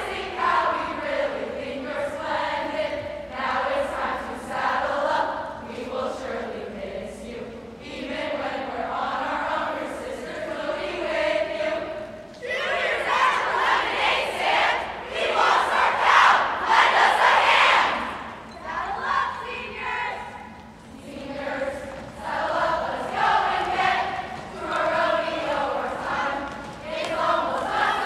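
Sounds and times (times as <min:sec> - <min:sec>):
group of voices singing: 0:00.0 - 0:19.8, 0:20.9 - 0:28.0.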